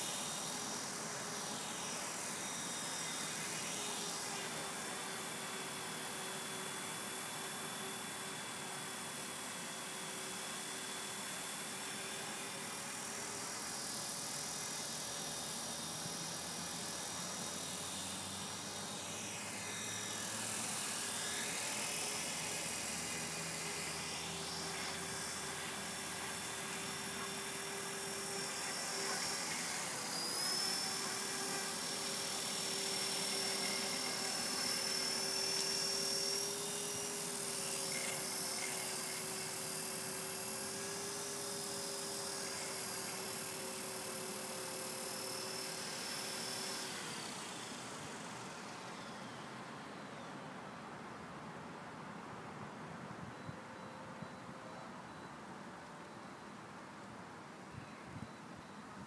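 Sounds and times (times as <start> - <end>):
rotor blades rushing: 0.0 - 49.8
electric motor whine: 0.0 - 50.3.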